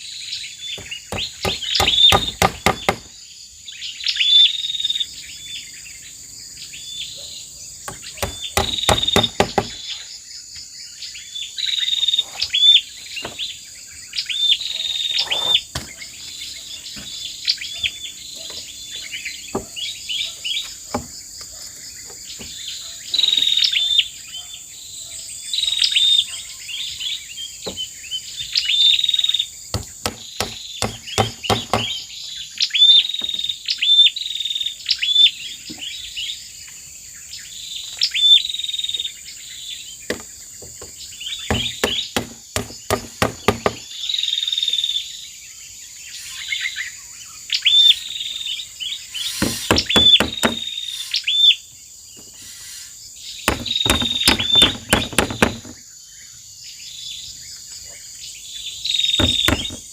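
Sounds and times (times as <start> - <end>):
birds chirping: 0.0 - 59.9
insect hiss: 0.0 - 59.9.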